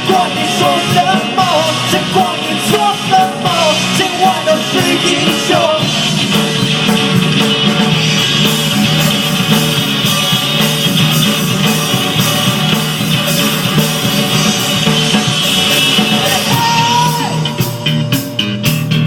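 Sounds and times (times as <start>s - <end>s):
drum kit beat: 0.0s - 19.0s
electric guitars: 0.0s - 19.0s.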